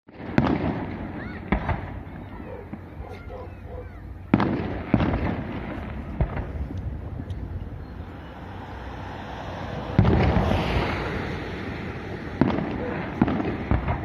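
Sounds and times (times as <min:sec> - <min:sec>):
rumbling echo and crackle: 0:00.1 - 0:08.2, 0:09.8 - 0:14.0
fireworks bursting: 0:00.1 - 0:14.0.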